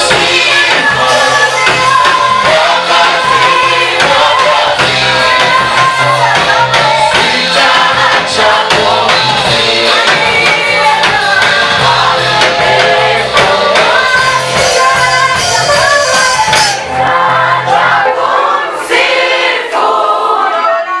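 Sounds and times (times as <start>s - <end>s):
band with bass and drums: 0.0s - 17.6s
choir singing gospel song: 0.0s - 21.0s.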